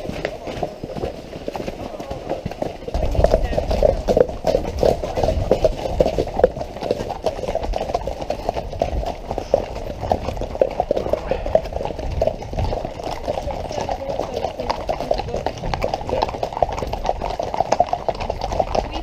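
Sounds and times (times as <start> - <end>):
hooves clip-clopping on road: 0.0 - 19.0.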